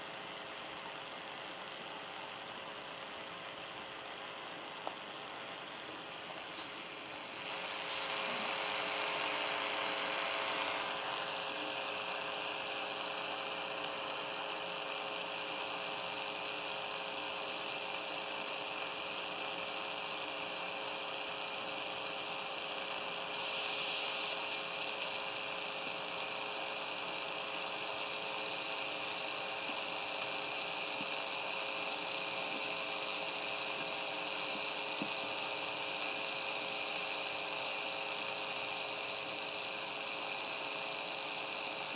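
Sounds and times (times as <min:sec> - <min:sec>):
electrical hum: 0:00.0 - 0:41.9
radio hiss: 0:00.0 - 0:41.9.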